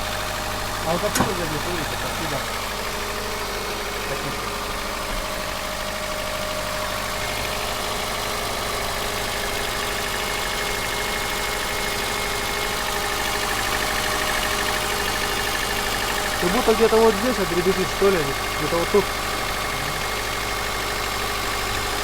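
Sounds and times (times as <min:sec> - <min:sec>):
car engine idling: 0:00.0 - 0:22.0
light engine rattle: 0:00.0 - 0:22.0.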